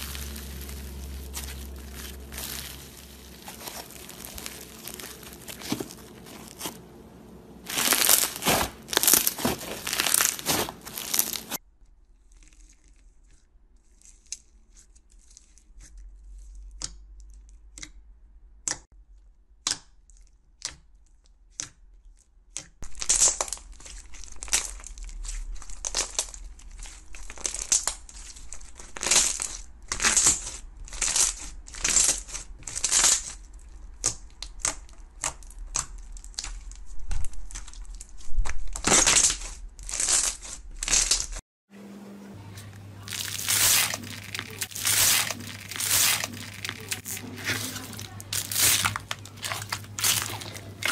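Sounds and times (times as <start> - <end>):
crunchy slime crackling squishes: 0.0 - 18.0, 19.1 - 41.4, 42.4 - 50.9.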